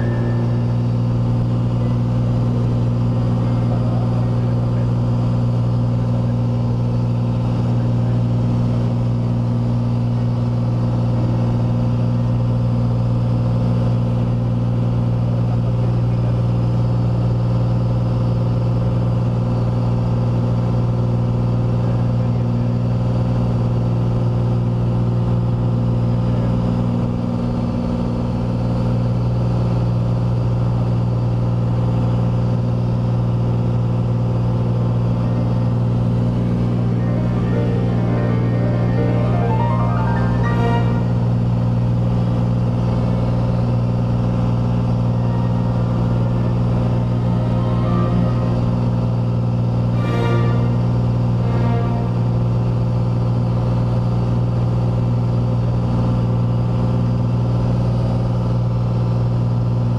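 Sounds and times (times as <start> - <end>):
propeller aircraft engine droning: 0.0 - 59.8.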